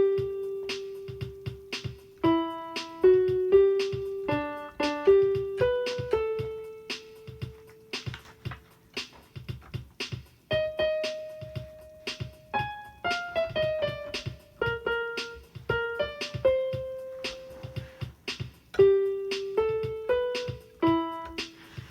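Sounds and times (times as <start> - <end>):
keyboard melody of held notes: 0.0 - 21.9
steady ticking beat: 0.0 - 21.9.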